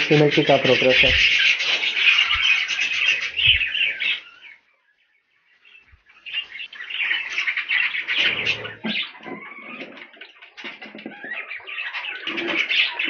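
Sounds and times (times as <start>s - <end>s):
budgerigars chirping and chattering: 0.0s - 13.0s.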